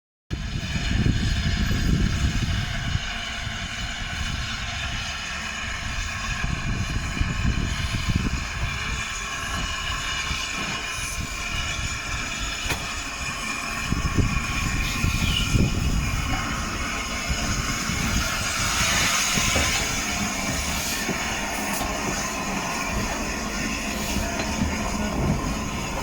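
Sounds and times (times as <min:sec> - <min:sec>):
steam locomotive rumbling: 0:00.3 - 0:26.0
steam hiss: 0:00.4 - 0:26.0.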